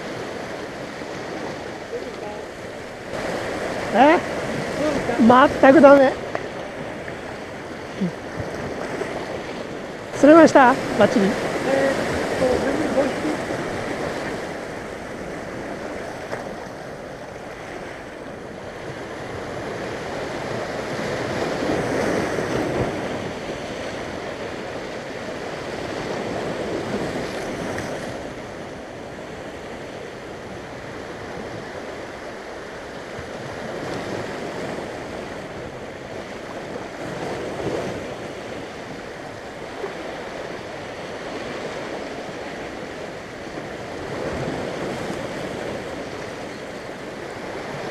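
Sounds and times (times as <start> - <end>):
waves breaking over rocks: 0.0 - 47.9.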